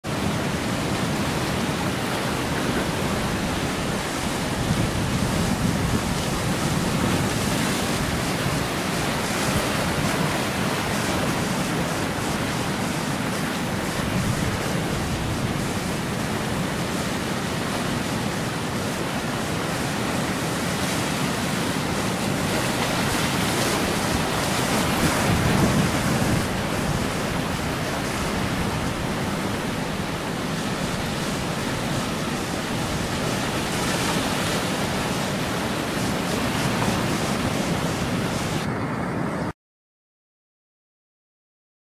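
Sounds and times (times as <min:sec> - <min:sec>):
surf breaking among rocks: 0:00.1 - 0:38.7.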